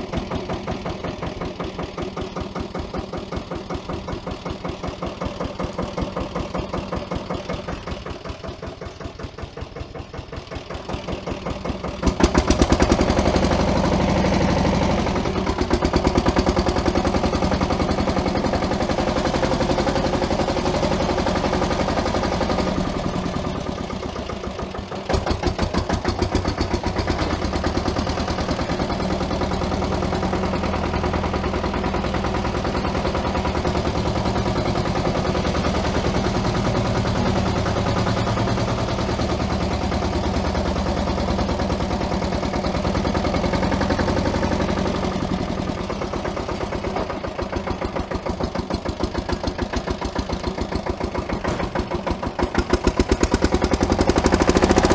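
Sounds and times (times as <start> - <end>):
diesel tractor engine chugging: 0.0 - 54.9.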